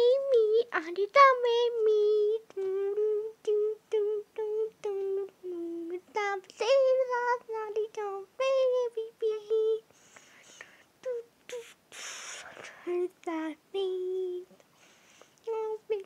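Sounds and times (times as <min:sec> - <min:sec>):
high voice singing wordless tune: 0:00.0 - 0:09.9, 0:11.0 - 0:14.6, 0:15.4 - 0:16.0.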